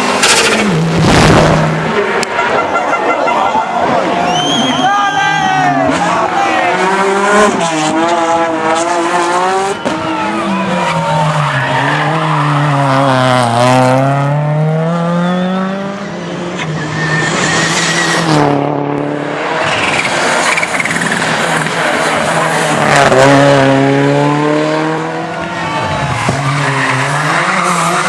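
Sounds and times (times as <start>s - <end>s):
rally car engine revving: 0.0s - 3.0s, 5.4s - 28.0s.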